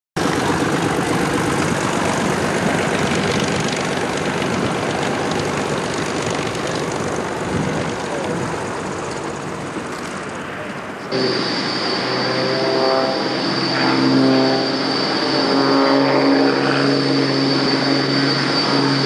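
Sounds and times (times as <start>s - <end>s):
propeller plane engine running: 0.2s - 19.0s.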